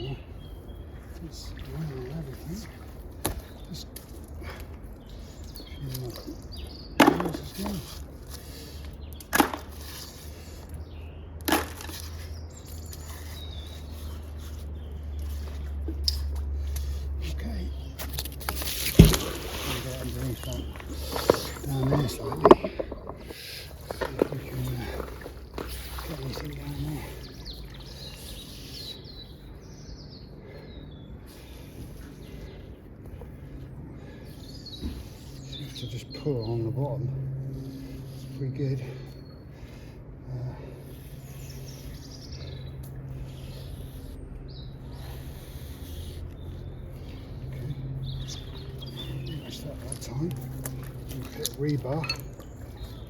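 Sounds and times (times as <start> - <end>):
low outdoor background noise: 0.0 - 53.0
songbird singing: 0.0 - 53.0
steady low hum: 0.0 - 53.0.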